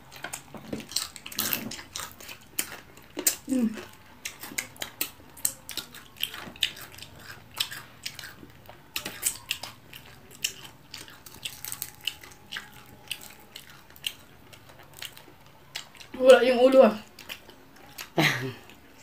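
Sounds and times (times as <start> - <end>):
chewing and mouth smacks: 0.1 - 16.2, 17.0 - 19.0.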